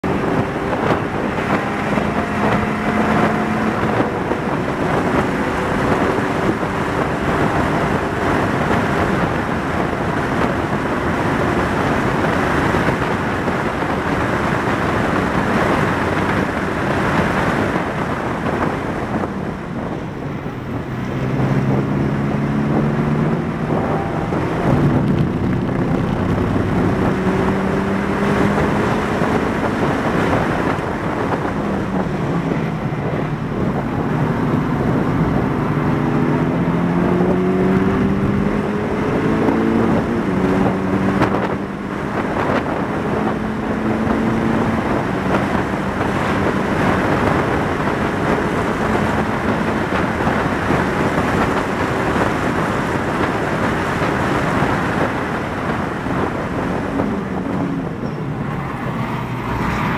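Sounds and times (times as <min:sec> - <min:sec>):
car engine at full throttle: 0:00.0 - 0:59.9
wind and road noise: 0:00.0 - 0:59.9.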